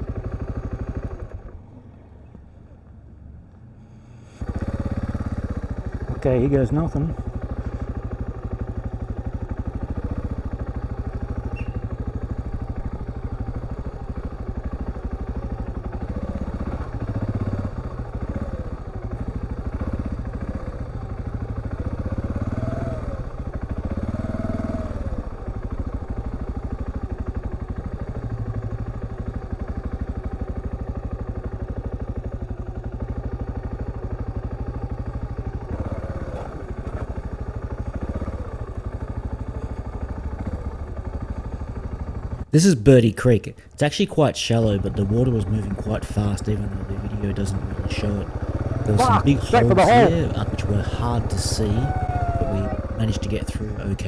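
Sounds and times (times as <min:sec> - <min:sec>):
motorcycle engine revving: 0:00.0 - 0:01.9, 0:04.0 - 0:42.5, 0:44.5 - 0:54.0.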